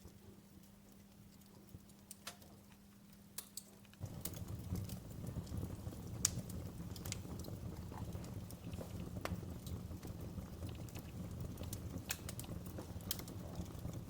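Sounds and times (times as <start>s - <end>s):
low rumble of flame: 0.0s - 14.0s
wood fire crackling and popping: 0.0s - 14.0s.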